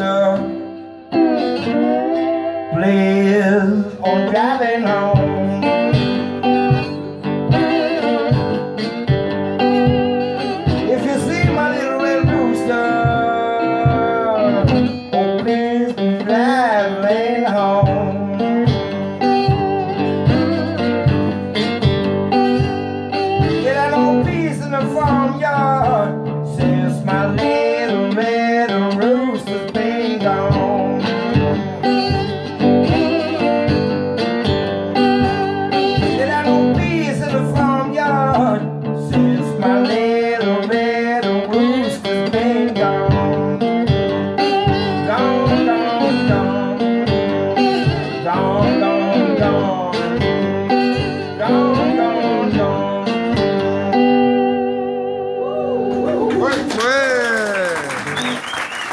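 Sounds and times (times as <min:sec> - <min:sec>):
blues slide guitar: 0:00.0 - 0:56.4.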